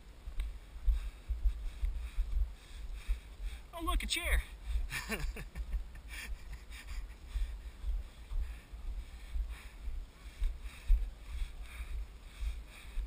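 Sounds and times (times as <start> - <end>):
footsteps on dry grass: 0.0 - 5.0, 6.4 - 13.0.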